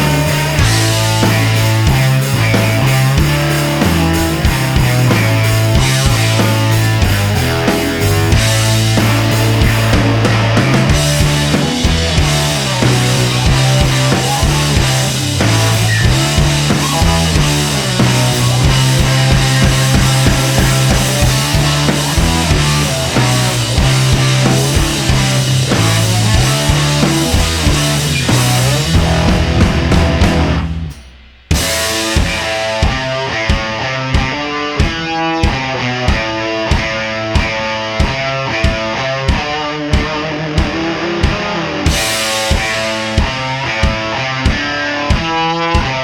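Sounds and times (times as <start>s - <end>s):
music with drums and heavy bass: 0.0s - 46.0s.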